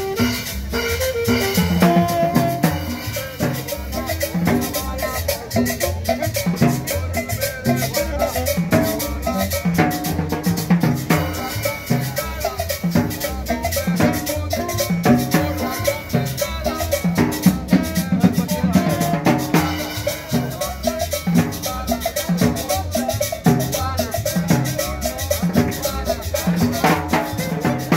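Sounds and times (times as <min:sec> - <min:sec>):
drums: 0:00.0 - 0:27.9
latin dance music: 0:00.0 - 0:27.9
maracas: 0:00.0 - 0:27.9.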